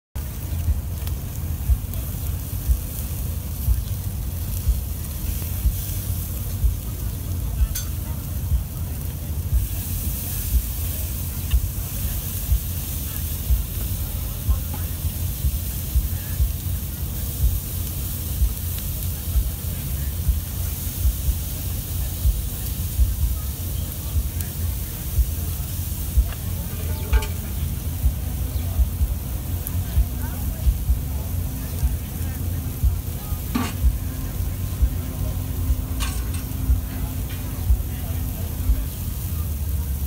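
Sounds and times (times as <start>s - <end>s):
chicken sizzling on grill: 0.2s - 40.0s
loud low rumble: 0.2s - 40.0s.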